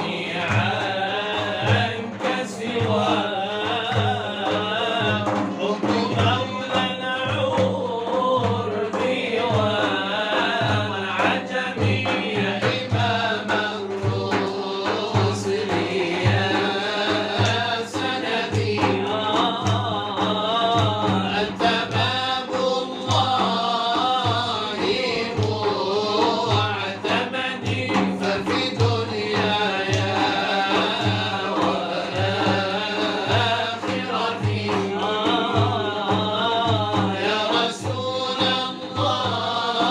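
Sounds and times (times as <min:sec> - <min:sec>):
hand drum beat: 0:00.0 - 0:39.9.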